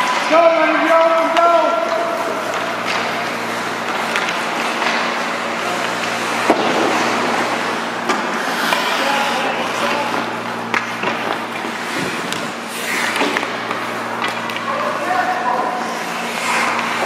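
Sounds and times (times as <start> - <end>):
hockey sticks and puck clacking: 0.0 - 17.0
skates scraping ice: 0.0 - 17.0
steady low hum: 0.0 - 17.0.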